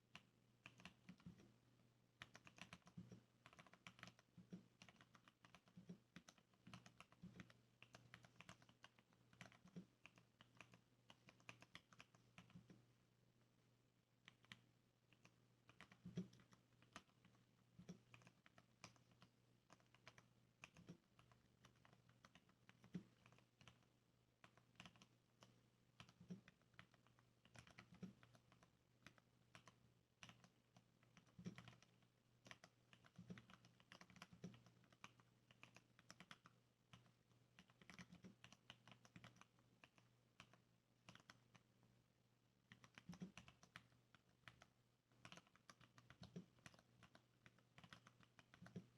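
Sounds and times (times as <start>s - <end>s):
typing on mechanical keyboard: 0.1s - 1.5s, 2.2s - 12.8s, 14.2s - 41.7s, 42.7s - 48.9s.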